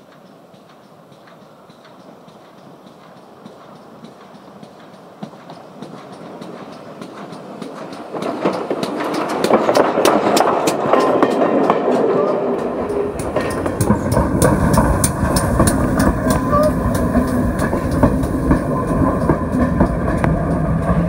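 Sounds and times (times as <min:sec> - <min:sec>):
train wheels clicking over rail joints: 0:00.0 - 0:21.0.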